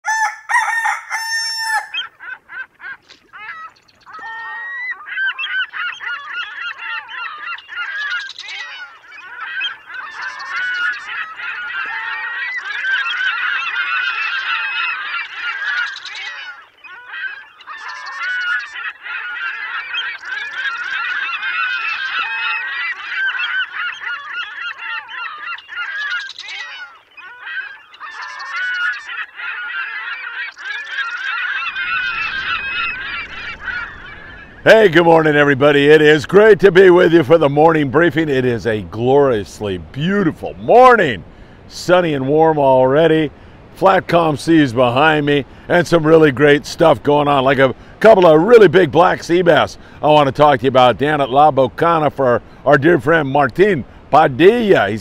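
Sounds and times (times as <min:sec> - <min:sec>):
flock of birds calling: 0:00.0 - 0:55.0.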